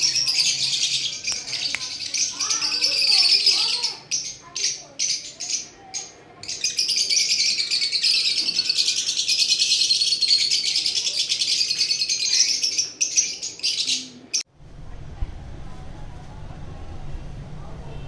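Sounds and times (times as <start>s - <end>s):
parrots chattering: 0.0s - 14.5s.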